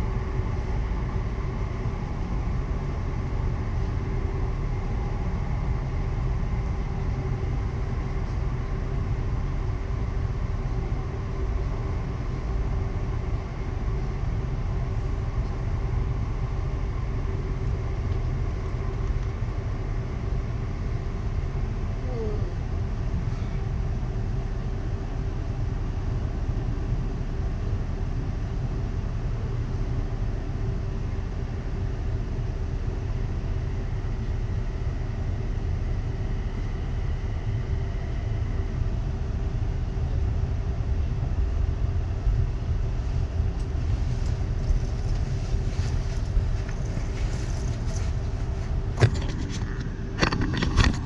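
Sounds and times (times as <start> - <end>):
electric train rumbling: 0.0 - 51.0.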